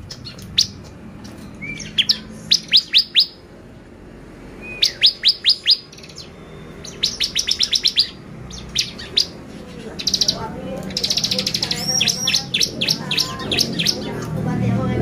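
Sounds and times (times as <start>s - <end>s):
bird singing high sweeping notes: 0.0s - 3.5s, 4.5s - 14.3s.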